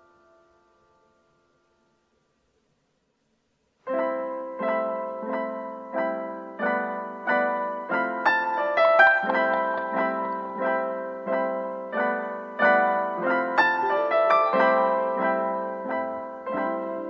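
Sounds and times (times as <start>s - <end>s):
piano chords: 0.0s - 2.0s, 3.8s - 17.0s.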